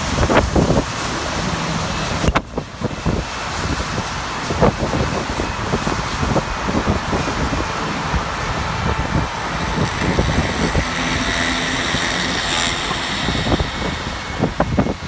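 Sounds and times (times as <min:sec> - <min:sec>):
bus engine: 0:00.0 - 0:15.0
road traffic: 0:00.0 - 0:15.0
wind buffeting microphone: 0:00.0 - 0:15.0.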